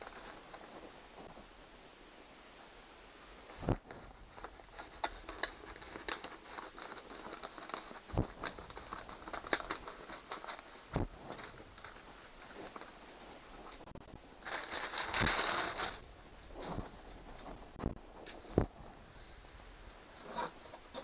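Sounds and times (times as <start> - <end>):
vinyl film crinkling: 0.0 - 1.9, 3.1 - 21.0.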